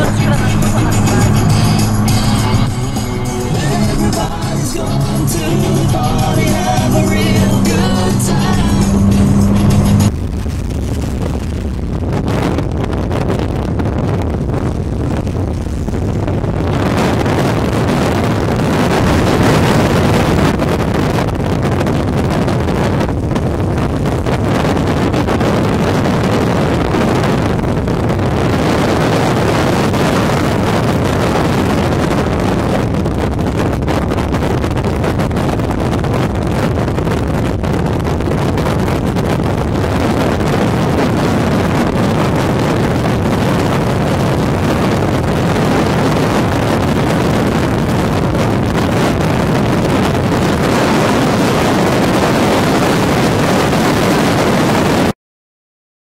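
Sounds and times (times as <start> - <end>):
road noise: 0.0 - 55.1
wind buffeting microphone: 0.0 - 55.1
wind rush: 0.0 - 55.2.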